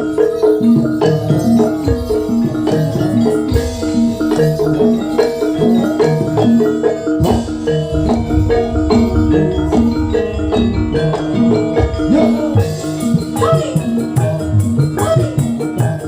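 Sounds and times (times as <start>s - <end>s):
gamelan metallophones playing: 0.0s - 16.0s
steady drumming: 0.0s - 16.0s.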